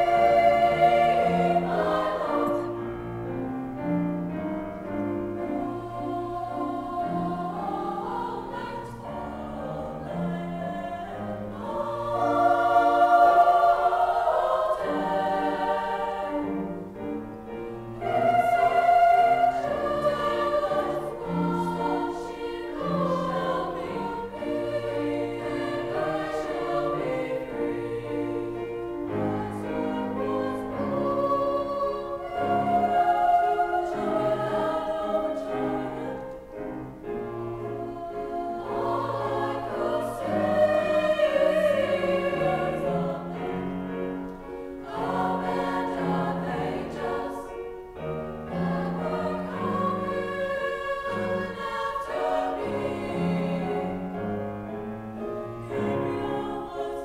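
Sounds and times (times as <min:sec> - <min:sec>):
grand piano: 0:00.0 - 0:57.0
women's choir singing: 0:00.0 - 0:57.0.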